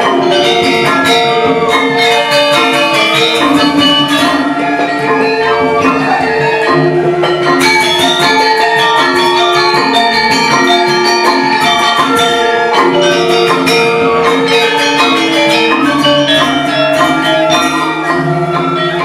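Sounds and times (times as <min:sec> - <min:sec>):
gamelan metallophones: 0:00.0 - 0:19.0.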